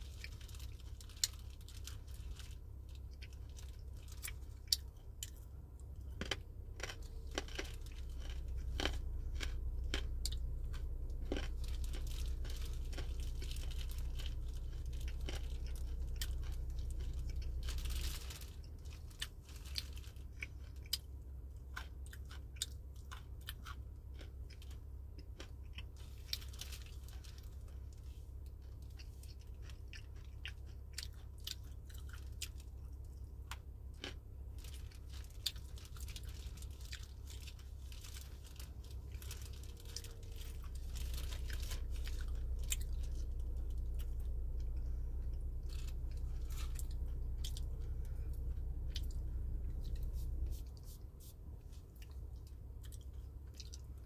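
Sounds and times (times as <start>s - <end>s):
low rumble: 0.0s - 22.2s, 32.8s - 54.0s
person chewing crunchy food: 0.0s - 54.0s.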